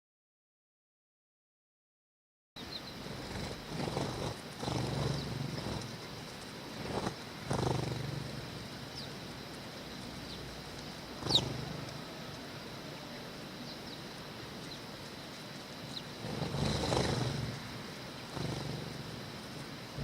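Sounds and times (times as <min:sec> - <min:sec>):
background hiss: 0:02.6 - 0:20.0
low rumbles: 0:02.6 - 0:20.0
sparrows chirping: 0:02.6 - 0:20.0.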